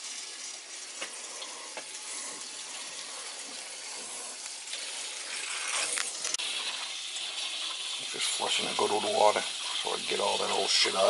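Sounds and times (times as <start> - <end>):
water rushing through a hose: 0.0 - 11.0.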